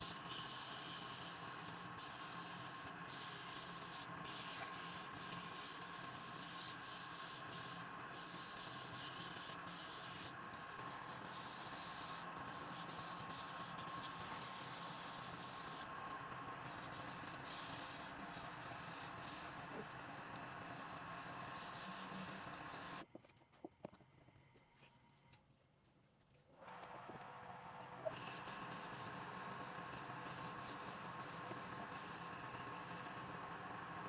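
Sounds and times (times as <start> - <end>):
tool hissing on spinning wood: 0.0 - 23.0, 28.0 - 34.0
wood lathe whining: 0.0 - 23.0, 26.6 - 34.0.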